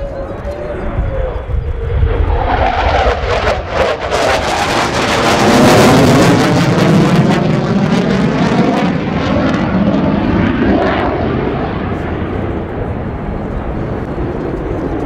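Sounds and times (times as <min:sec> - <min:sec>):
crackling jet engine roar: 0:00.0 - 0:15.0.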